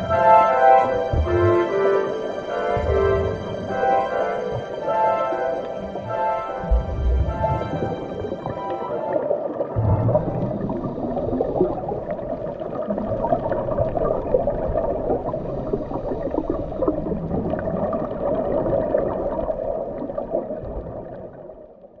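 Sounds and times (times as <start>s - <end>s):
underwater bubbling: 0.0s - 22.0s.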